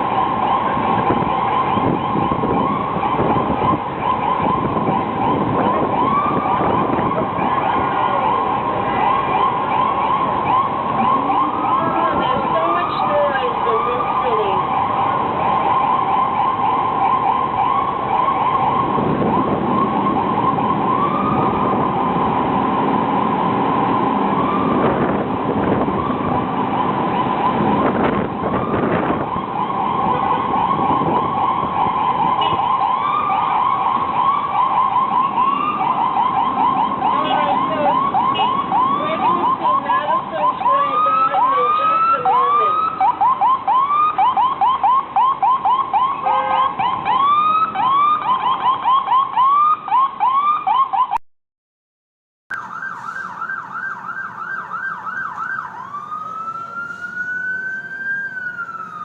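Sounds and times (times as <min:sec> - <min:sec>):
ambulance siren yelping: 0:00.0 - 0:51.2, 0:52.5 - 0:59.0
siren with slow wide sweeps: 0:00.0 - 0:51.2, 0:52.5 - 0:59.0
traffic noise: 0:00.0 - 0:51.2, 0:52.5 - 0:59.0.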